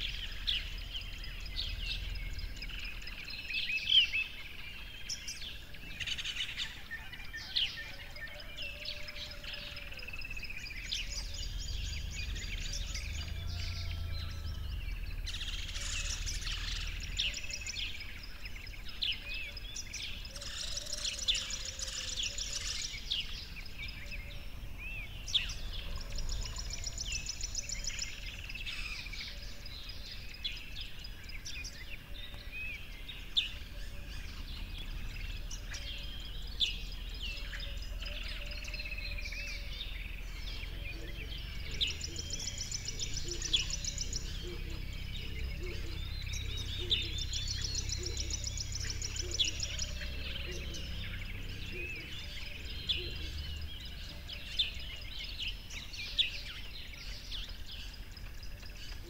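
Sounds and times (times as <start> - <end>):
low steady rumble: 0.0 - 6.7, 10.4 - 31.9, 32.5 - 56.0
birds chirping and trilling: 0.0 - 59.0.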